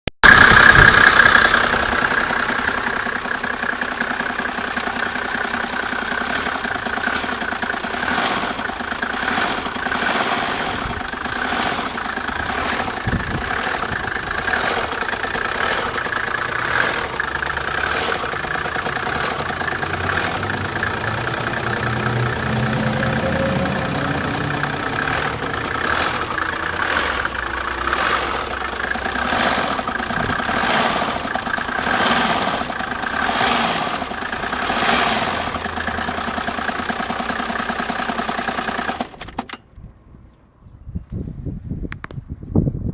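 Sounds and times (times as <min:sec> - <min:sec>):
diesel engine idling: 0:00.2 - 0:39.5.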